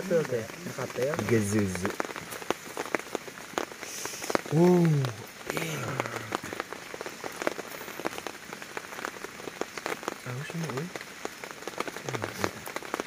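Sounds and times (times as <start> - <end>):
heavy rain falling: 0.0 - 13.0
raindrops tapping close by: 0.0 - 13.0.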